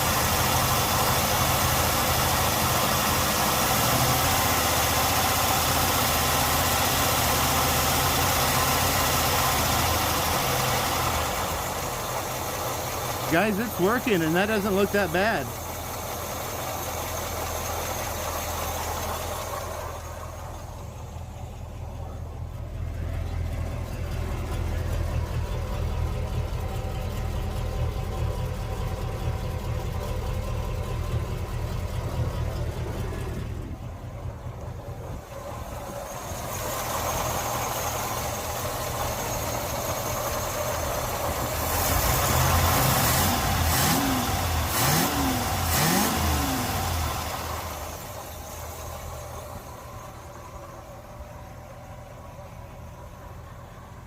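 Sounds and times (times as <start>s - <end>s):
bus engine idling: 0.0s - 43.7s, 46.7s - 54.0s.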